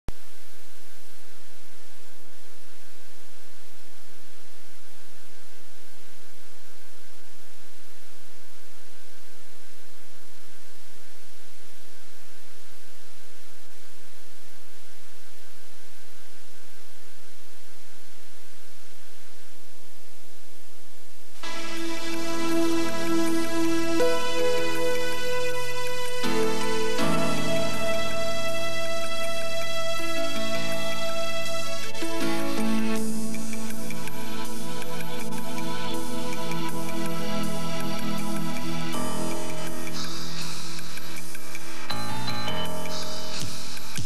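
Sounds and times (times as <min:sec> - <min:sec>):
tape hiss: 0:00.0 - 0:44.0.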